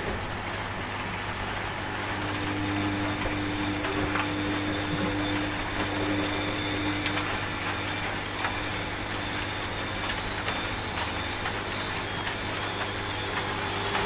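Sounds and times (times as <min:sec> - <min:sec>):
rain hiss: 0:00.0 - 0:14.0
raindrops ticking: 0:00.0 - 0:14.0
washing machine hum: 0:00.0 - 0:14.0.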